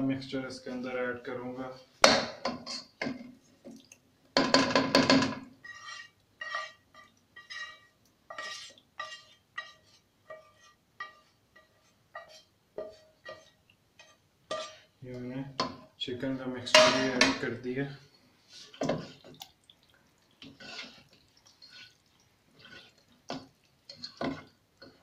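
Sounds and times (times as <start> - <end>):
spatula scraping metal pan: 0.8 - 3.2, 4.4 - 15.0, 16.6 - 19.4, 20.4 - 25.0.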